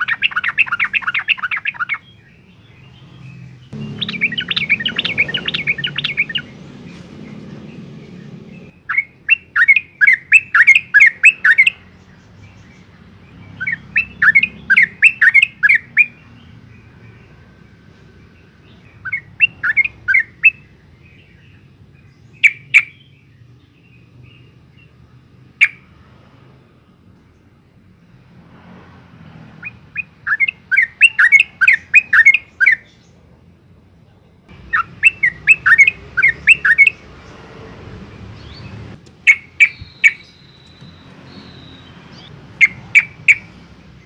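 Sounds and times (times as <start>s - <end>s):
bird rapid chirping song: 0.0s - 26.0s, 29.6s - 33.2s, 34.5s - 44.0s.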